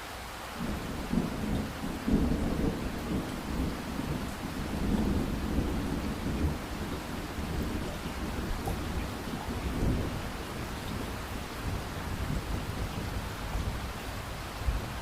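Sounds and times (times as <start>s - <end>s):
steady rain: 0.0s - 15.0s
thunder rumbling: 0.6s - 15.0s.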